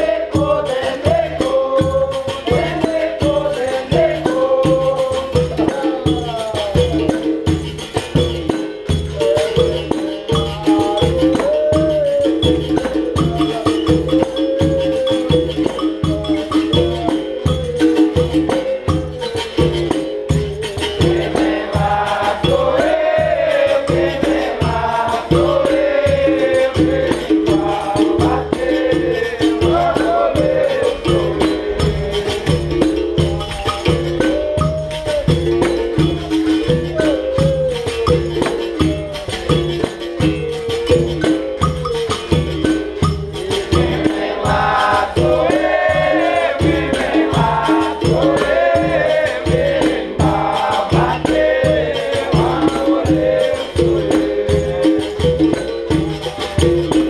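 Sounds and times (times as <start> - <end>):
jingling hand percussion: 0.0 - 57.0
steady drum beat: 0.0 - 57.0
voices singing: 0.0 - 57.0.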